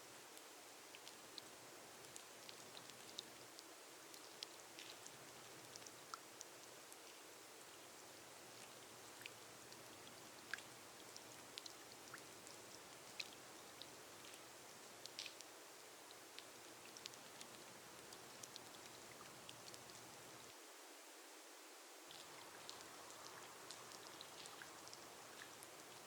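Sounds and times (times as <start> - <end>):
rain on a glass roof: 0.0 - 26.0.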